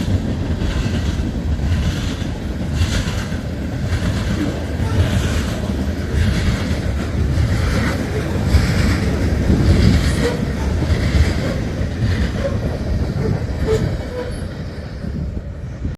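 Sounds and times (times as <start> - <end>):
train wheels rumbling and clacking: 0.0 - 15.9.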